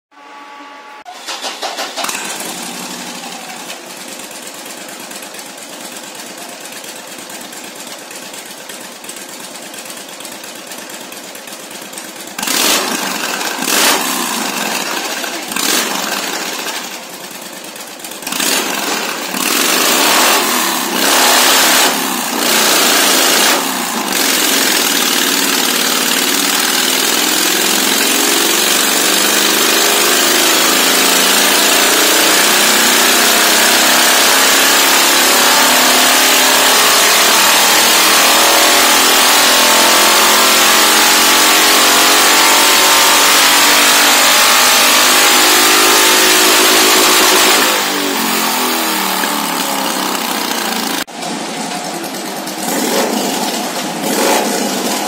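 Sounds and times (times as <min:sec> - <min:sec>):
motorcycle engine revving: 0:00.2 - 0:55.0.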